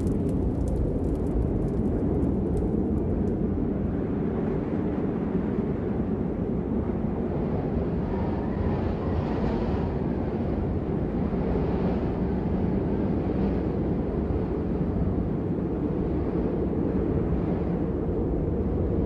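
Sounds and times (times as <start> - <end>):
blizzard wind rumbling: 0.0 - 19.0.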